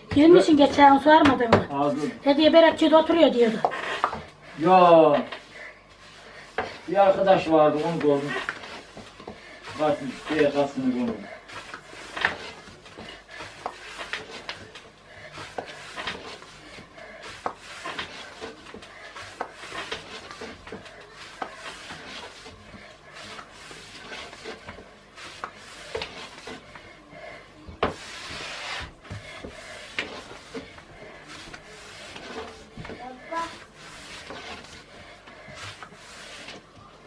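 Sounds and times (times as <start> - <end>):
wood rubbing: 3.5 - 27.1, 27.7 - 37.0.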